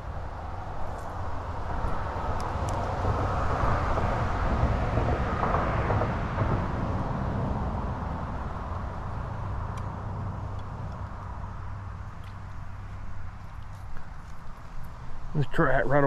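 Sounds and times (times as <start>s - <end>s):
vehicle passing on road: 0.0s - 16.0s.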